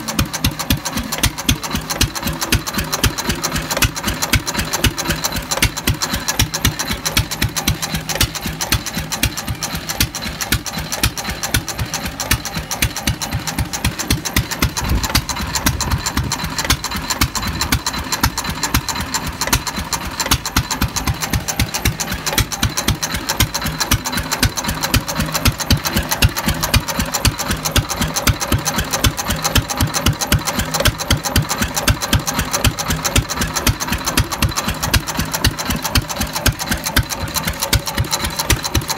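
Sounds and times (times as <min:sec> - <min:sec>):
stationary engine knocking: 0:00.0 - 0:38.9.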